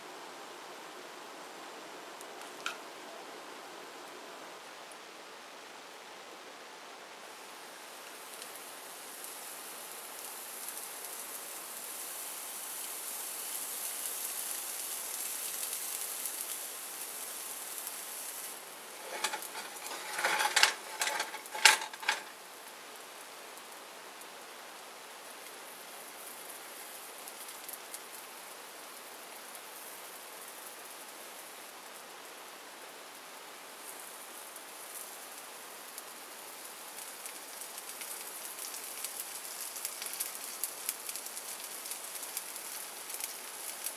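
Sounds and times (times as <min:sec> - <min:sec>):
batter sizzling in a frying pan: 0:07.2 - 0:43.9.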